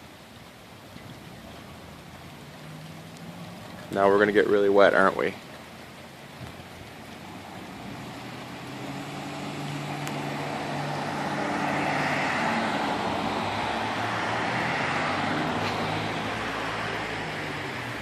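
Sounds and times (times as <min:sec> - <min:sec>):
car passing on wet street: 0:00.0 - 0:18.0.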